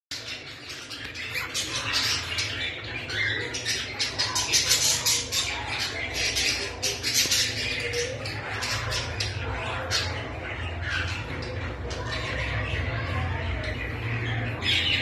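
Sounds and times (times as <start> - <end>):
parrots chirping and squawking: 0.1 - 15.0.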